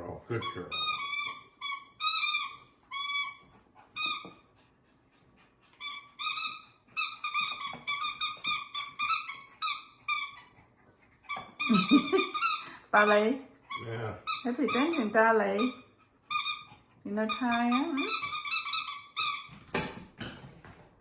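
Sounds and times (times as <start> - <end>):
squeaky dog toy squeaking: 0.3 - 4.4, 5.8 - 10.5, 11.3 - 20.5.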